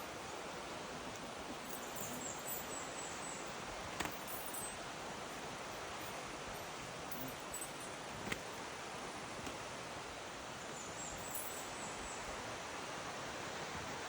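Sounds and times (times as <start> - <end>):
jungle rustling hiss: 0.0 - 14.0.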